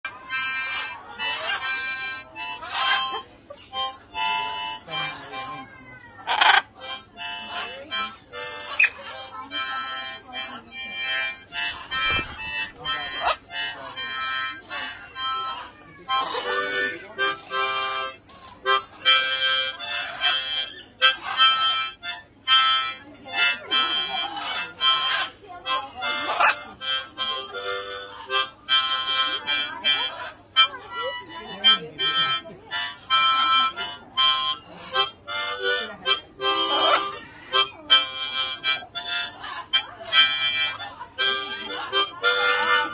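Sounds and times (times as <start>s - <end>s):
harmonica playing: 0.0s - 42.9s.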